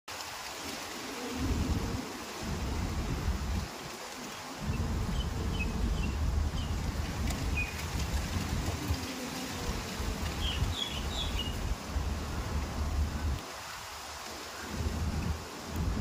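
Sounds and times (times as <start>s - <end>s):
low uneven rumble: 1.2s - 3.9s, 4.6s - 13.4s, 14.7s - 16.0s.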